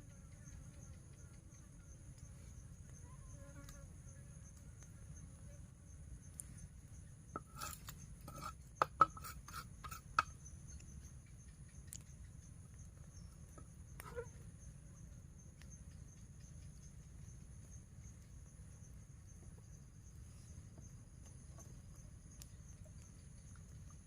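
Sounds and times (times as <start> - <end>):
insects calling: 0.0 - 24.0.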